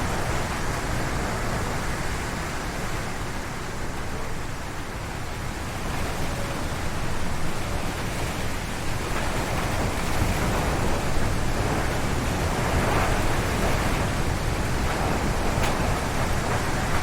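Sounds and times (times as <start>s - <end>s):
strong wind through trees: 0.0s - 17.0s.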